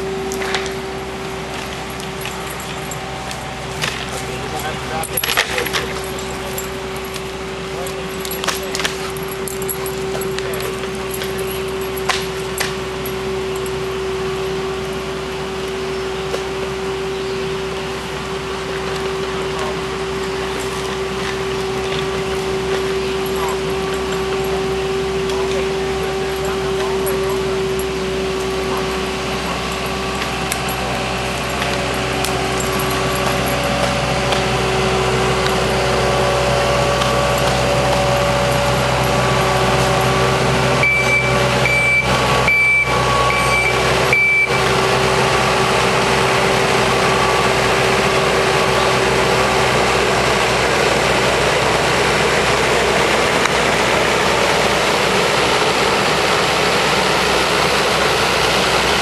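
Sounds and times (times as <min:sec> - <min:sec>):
reversing alarm beeping: 0:00.0 - 0:50.6
heavy vehicle engine running: 0:00.0 - 0:59.0.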